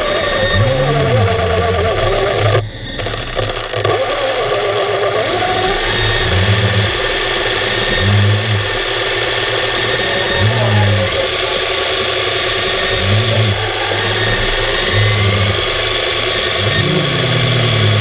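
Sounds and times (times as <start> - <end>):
small electric motor whirring: 0.0 - 18.0.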